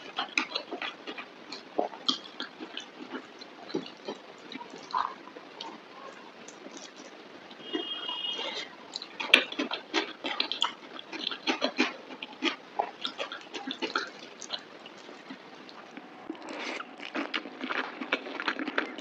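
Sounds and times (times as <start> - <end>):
chewing and lip-smacking: 0.0 - 19.0.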